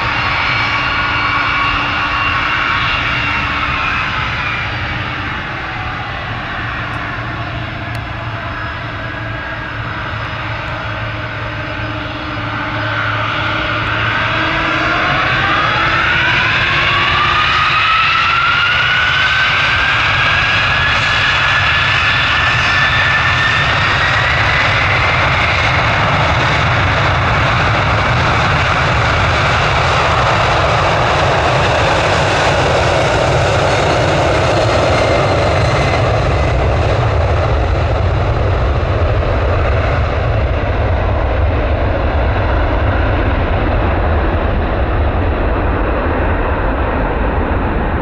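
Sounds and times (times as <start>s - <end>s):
jet engines spooling up: 0.0s - 48.0s.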